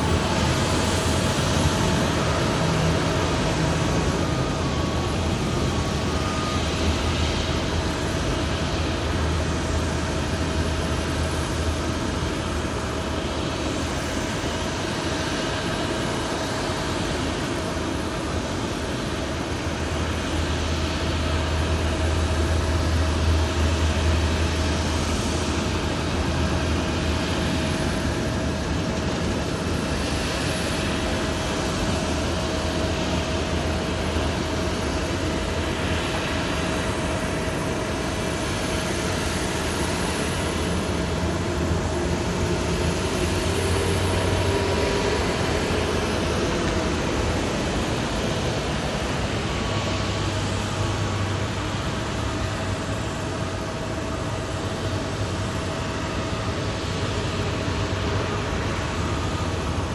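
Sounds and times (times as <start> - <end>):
jet airliner rumble: 0.0 - 59.9
thin steady whine: 0.0 - 59.9.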